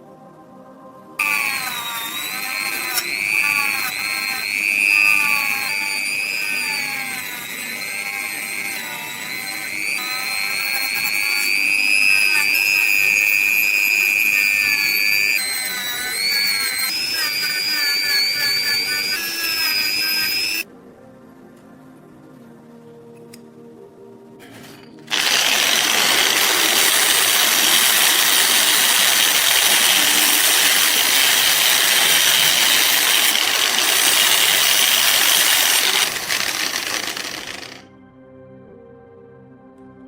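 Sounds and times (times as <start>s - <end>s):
small power tool whining: 1.2s - 20.7s, 24.8s - 37.8s.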